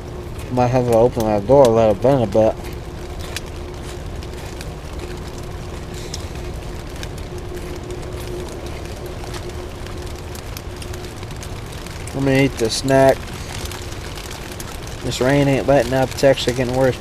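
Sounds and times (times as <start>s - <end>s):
faint low hum: 0.0s - 17.0s
rain on plastic sheeting: 0.0s - 17.0s.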